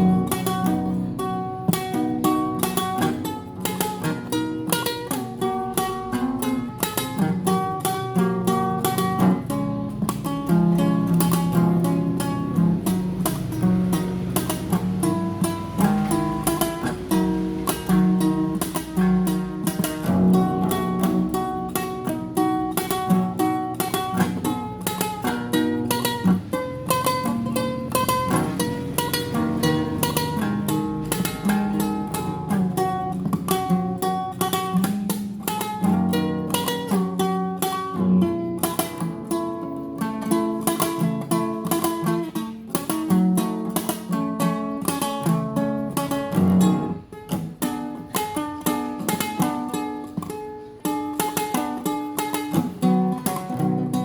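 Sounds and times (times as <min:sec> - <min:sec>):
classical guitar tremolo: 0:00.0 - 0:54.0.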